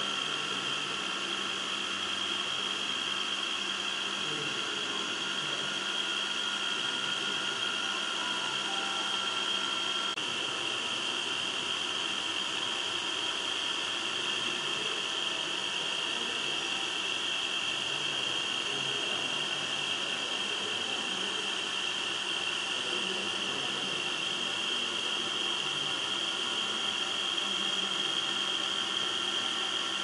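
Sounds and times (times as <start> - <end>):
high-pitched machine whir: 0.0 - 30.0.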